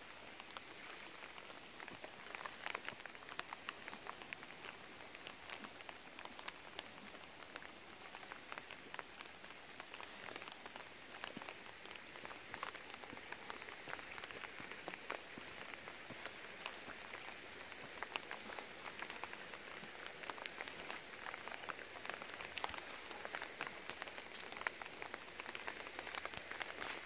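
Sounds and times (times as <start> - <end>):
gentle rain hiss: 0.0 - 27.0
raindrops ticking: 0.0 - 27.0.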